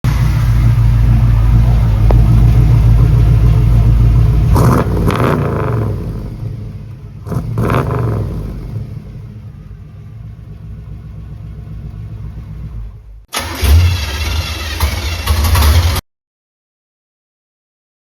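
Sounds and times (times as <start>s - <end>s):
car engine running loud: 0.0s - 16.0s
engine revving in throttle blips: 0.0s - 16.0s.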